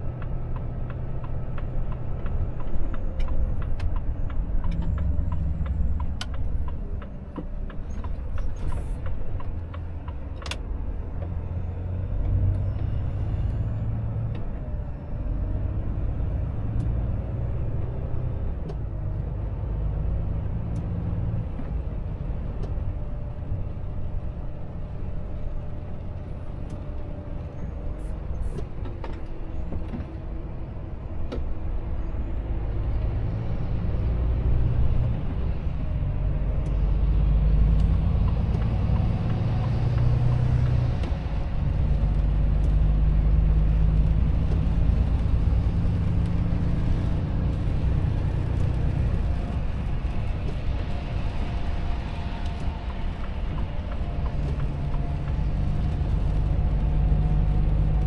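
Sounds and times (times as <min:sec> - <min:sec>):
road noise: 0:00.0 - 0:58.0
truck diesel engine: 0:00.0 - 0:58.0.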